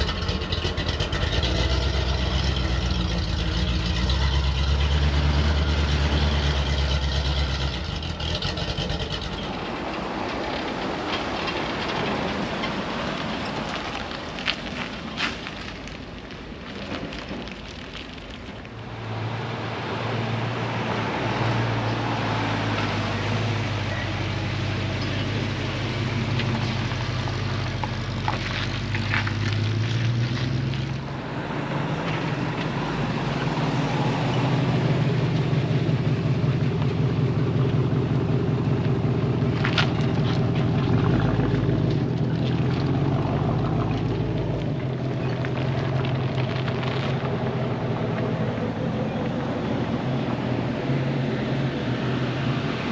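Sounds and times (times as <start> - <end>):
truck engine low note: 0.0 - 11.2, 18.8 - 52.9
throbbing truck engine: 0.0 - 52.9.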